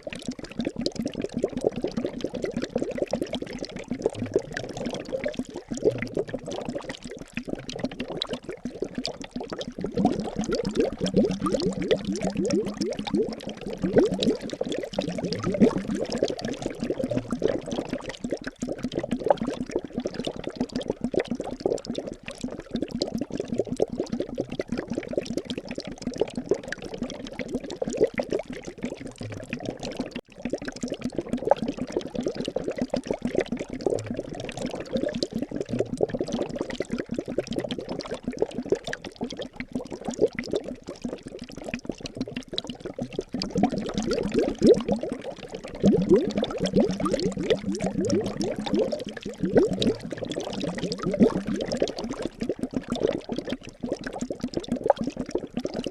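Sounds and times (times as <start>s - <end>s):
liquid bubbling and trickling: 0.0s - 55.9s.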